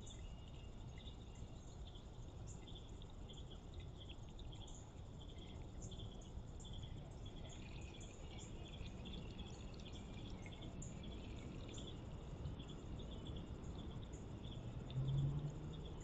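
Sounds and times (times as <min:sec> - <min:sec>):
crickets chirping: 0:00.0 - 0:16.0
low steady rumble: 0:00.0 - 0:16.0.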